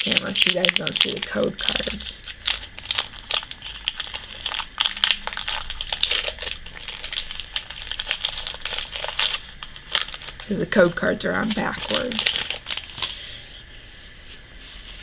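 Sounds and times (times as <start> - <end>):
foil wrapper crinkling: 0.0 - 13.4.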